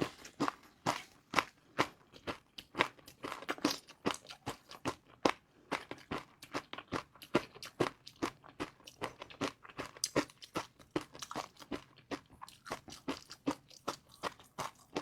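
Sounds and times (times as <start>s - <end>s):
chewing crispy noodles: 0.0s - 15.0s.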